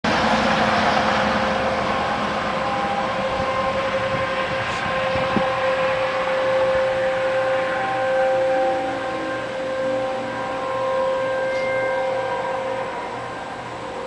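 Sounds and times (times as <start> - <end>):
distant warning sirens: 0.1 - 14.0.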